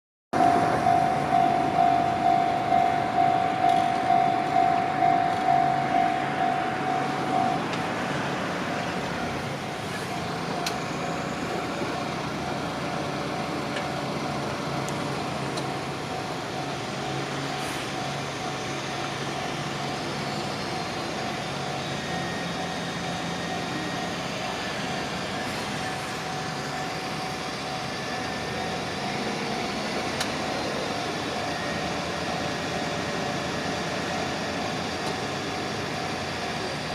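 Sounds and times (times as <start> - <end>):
railway crossing alarm dinging: 0.4 - 36.9
train rushing past: 0.4 - 36.9.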